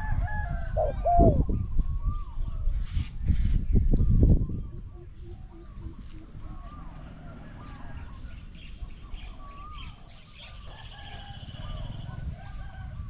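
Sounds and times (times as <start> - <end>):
small birds chirping and whistling: 0.9 - 13.0.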